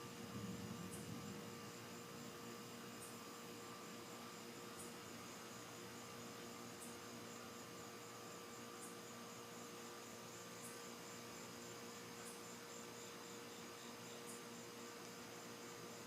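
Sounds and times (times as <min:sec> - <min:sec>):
faint hum and hiss: 0:00.0 - 0:16.0
high insect chirp: 0:00.0 - 0:16.0.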